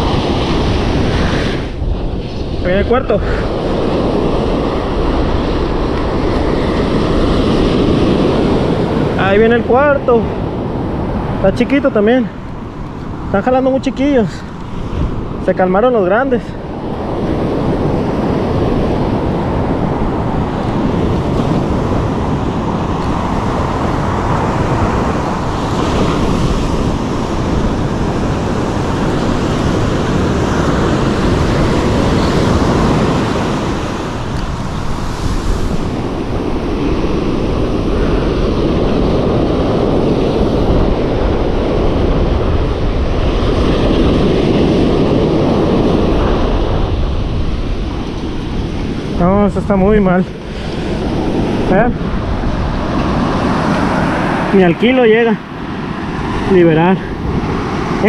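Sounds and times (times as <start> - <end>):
surf breaking on a beach: 0.0 - 58.0
wind on the microphone: 0.0 - 58.0.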